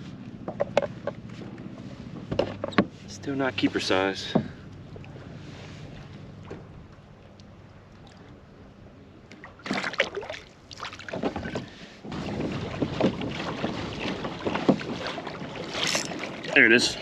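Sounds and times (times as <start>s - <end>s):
water splashing against kayak: 0.1s - 17.0s.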